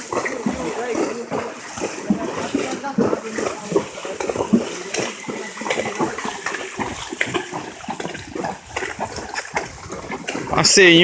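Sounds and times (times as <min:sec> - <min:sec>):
hooves splashing through water: 0:00.0 - 0:11.0.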